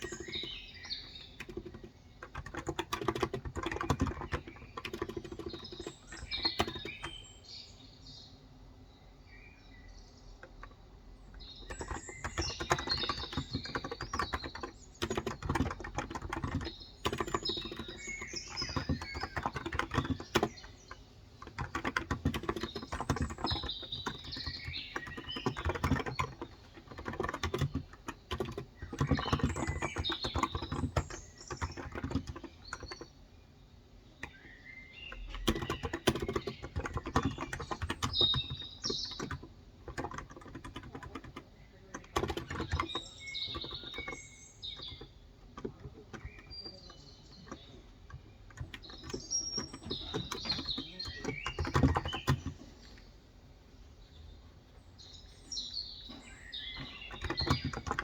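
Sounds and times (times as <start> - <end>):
typing on keyboard: 0.0 - 7.3, 10.4 - 33.2, 34.1 - 53.0, 55.6 - 58.0
small birds chirping: 0.0 - 58.0.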